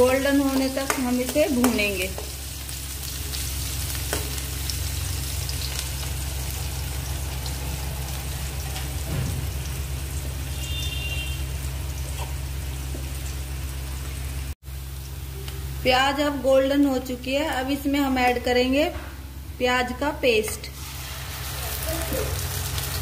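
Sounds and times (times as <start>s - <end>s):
onion sizzling in hot oil: 0.0s - 18.6s, 19.3s - 23.0s.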